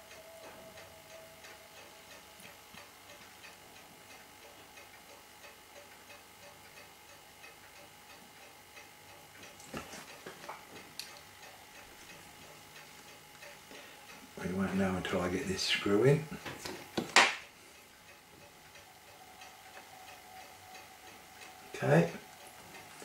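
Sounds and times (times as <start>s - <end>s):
clock ticking: 0.0s - 23.0s.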